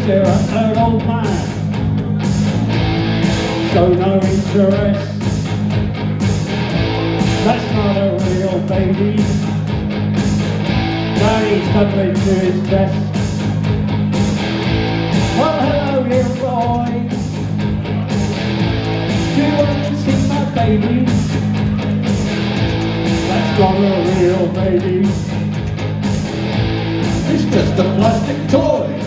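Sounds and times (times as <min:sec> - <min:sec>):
electric guitar bending pitch: 0:00.0 - 0:29.0
live rock band playing: 0:00.0 - 0:29.0.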